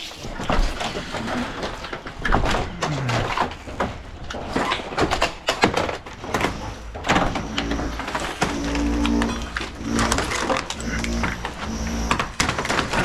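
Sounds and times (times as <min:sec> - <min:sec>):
clatter of knocks and bangs: 0:00.2 - 0:13.0.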